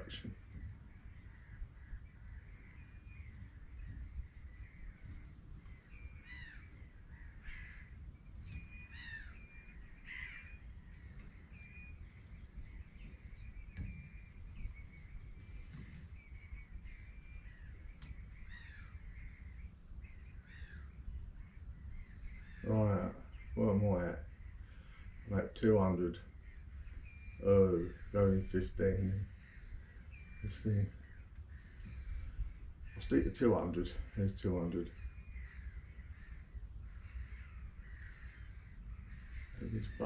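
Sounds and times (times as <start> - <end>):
birds calling: 0.0 - 40.0.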